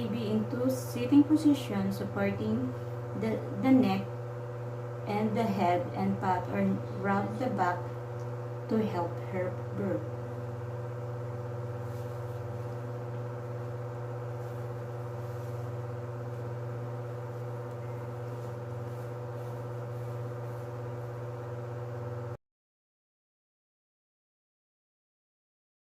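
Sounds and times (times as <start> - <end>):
low machine hum: 0.0 - 22.4.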